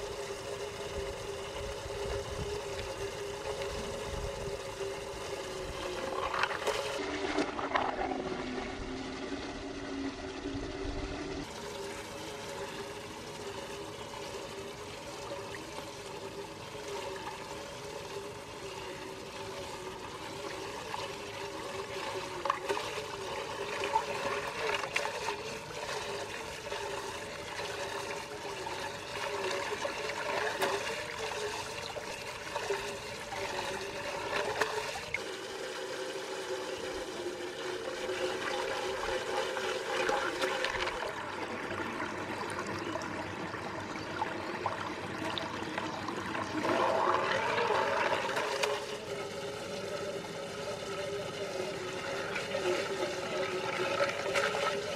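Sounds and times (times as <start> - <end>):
water swirling and draining: 0.0 - 54.9
wavering hum: 0.0 - 54.9.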